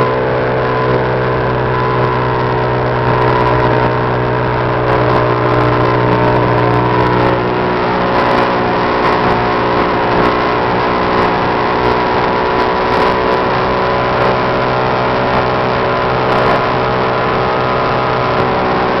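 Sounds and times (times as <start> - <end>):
outboard motor screaming: 0.0 - 19.0.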